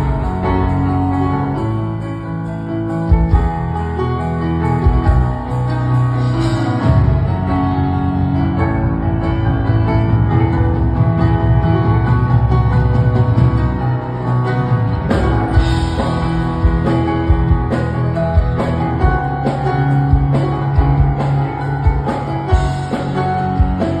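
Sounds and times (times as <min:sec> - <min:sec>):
guitar music with drum beat: 0:00.0 - 0:24.0.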